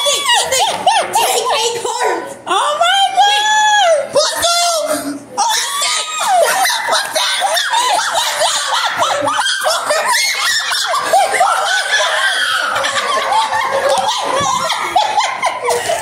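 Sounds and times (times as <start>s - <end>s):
children laughing and shrieking: 0.0s - 16.0s.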